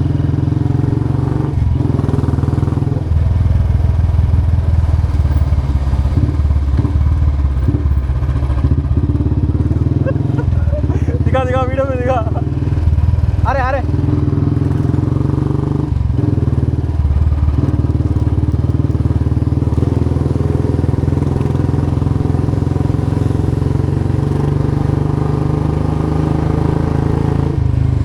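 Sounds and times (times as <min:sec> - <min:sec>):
motorcycle engine thumping: 0:00.0 - 0:22.6.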